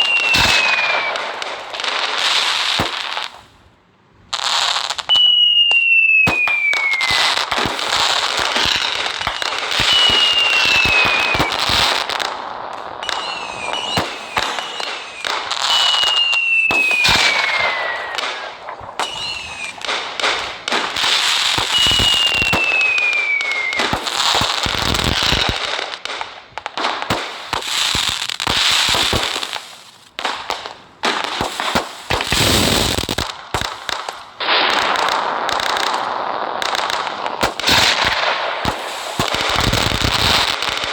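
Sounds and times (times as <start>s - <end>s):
falling firework whistle: 0.0s - 3.0s, 4.4s - 26.0s, 31.4s - 40.9s
firecrackers crackling and popping: 0.0s - 40.9s.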